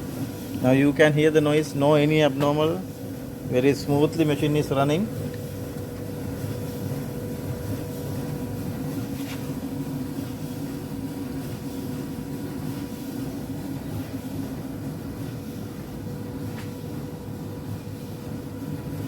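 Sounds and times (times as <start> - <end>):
clothes dryer running: 0.0 - 19.0.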